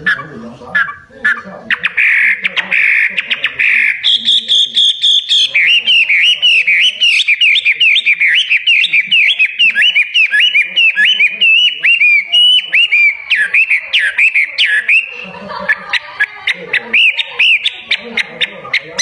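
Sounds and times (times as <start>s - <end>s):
songbird whistling: 0.0s - 19.0s.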